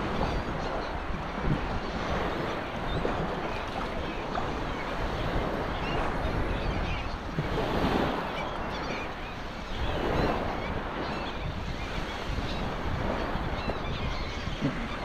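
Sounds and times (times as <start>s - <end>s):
faint seabird calls: 0.0s - 15.0s
small waves lapping: 0.0s - 15.0s
wind buffeting microphone: 0.0s - 15.0s.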